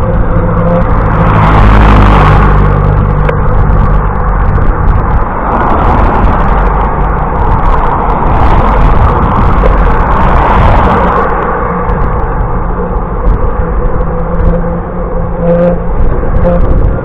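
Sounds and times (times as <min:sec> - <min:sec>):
low rumble: 0:00.0 - 0:17.0
wind rushing on microphone: 0:00.0 - 0:17.0.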